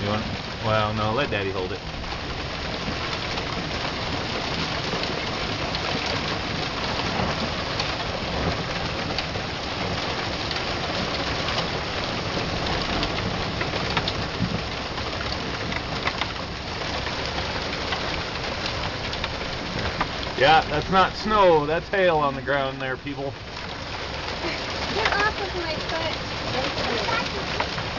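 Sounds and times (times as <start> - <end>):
hailstones striking the ground: 0.0 - 27.9.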